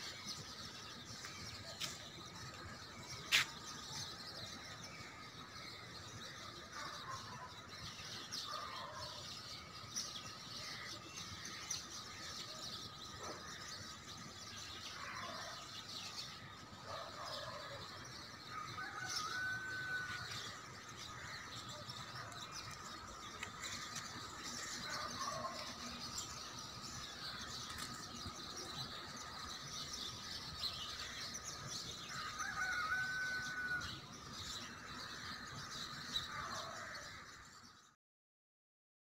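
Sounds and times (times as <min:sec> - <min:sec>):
birds chirping and twittering: 0:00.0 - 0:38.0.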